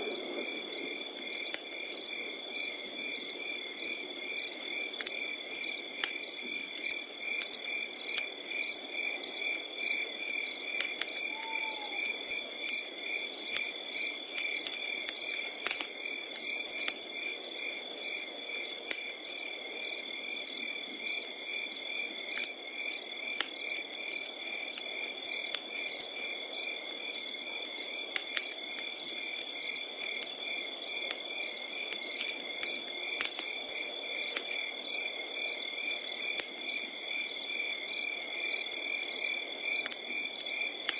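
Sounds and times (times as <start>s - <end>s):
crickets chirping: 0.0s - 40.9s
wood fire crackling: 0.0s - 40.9s.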